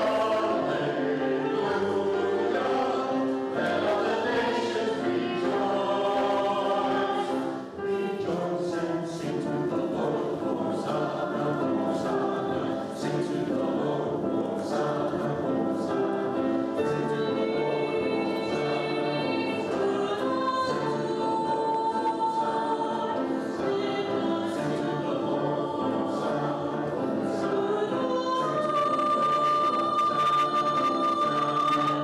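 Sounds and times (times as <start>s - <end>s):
choir singing sacred music: 0.0s - 32.0s.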